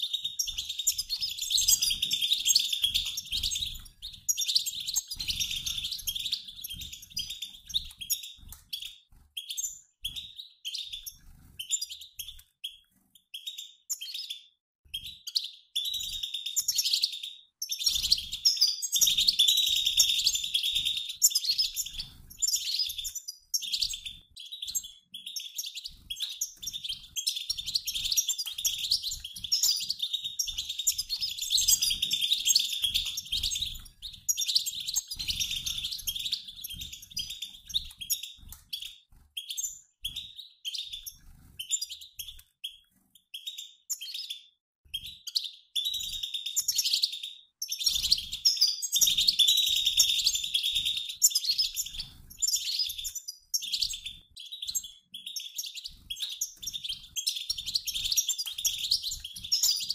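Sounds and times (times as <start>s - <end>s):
goldfinches twittering: 0.0s - 12.4s, 15.3s - 42.4s, 45.4s - 59.9s.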